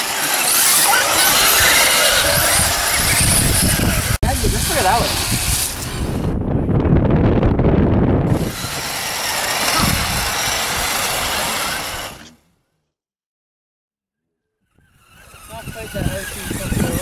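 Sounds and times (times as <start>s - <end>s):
electric motor and gears whirring: 0.0s - 12.5s, 14.6s - 17.0s.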